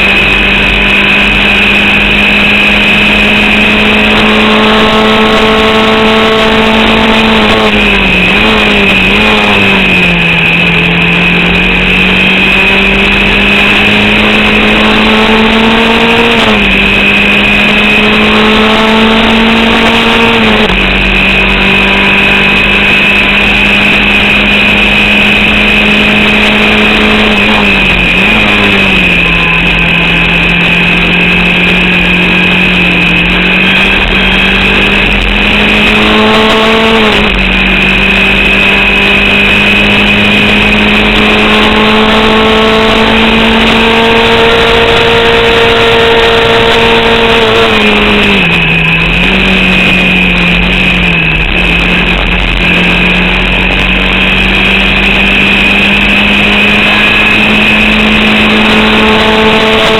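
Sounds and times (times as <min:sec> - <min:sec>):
race car engine running under load: 0:00.0 - 0:59.9
steady high whine: 0:00.0 - 0:59.9.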